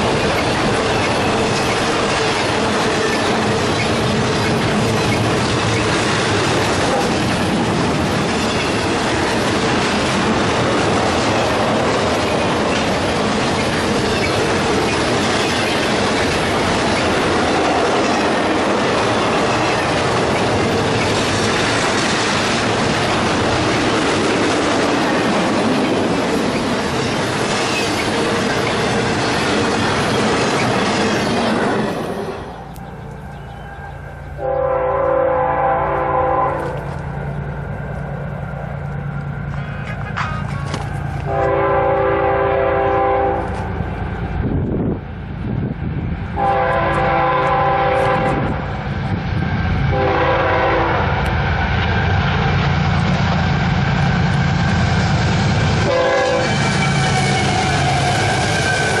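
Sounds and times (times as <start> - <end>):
train wheels over rail joints: 0.0 - 59.0.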